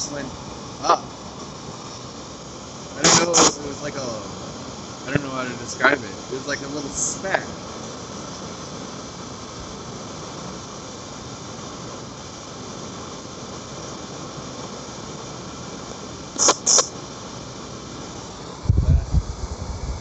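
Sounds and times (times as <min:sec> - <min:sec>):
short sharp hissing sounds: 0:00.0 - 0:18.7
steady background hiss: 0:00.0 - 0:20.0.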